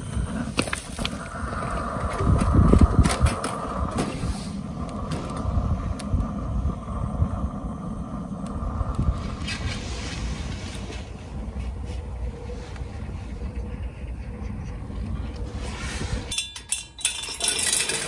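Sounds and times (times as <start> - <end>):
wind on microphone: 0.0 - 16.4
pellet stove rumbling: 0.0 - 18.0.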